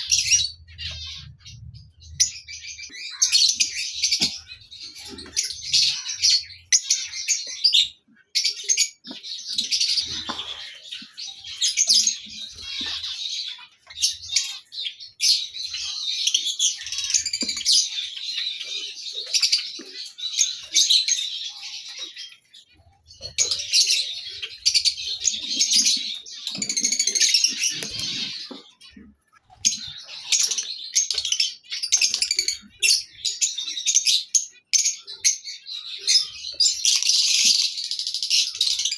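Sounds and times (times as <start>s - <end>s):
lovebirds chattering: 0.0s - 38.9s.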